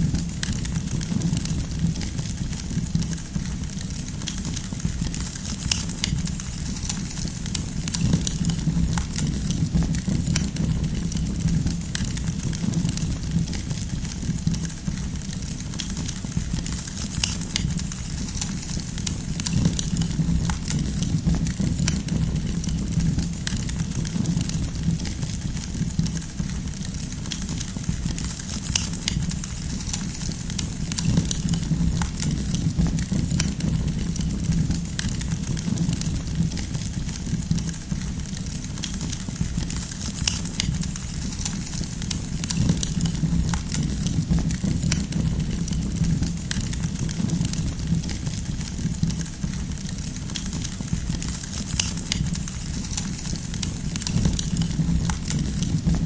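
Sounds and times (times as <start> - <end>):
firewood crackling and popping: 0.0 - 56.0
low rumble of flame: 0.0 - 56.0.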